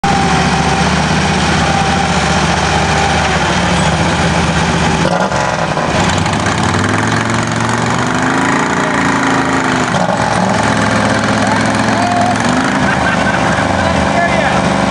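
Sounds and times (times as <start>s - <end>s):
tractor engines running hard: 0.0s - 14.9s.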